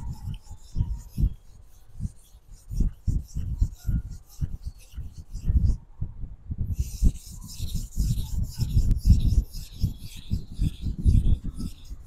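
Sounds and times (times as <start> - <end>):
knife scraping on whetstone: 0.0 - 5.8, 6.8 - 12.0.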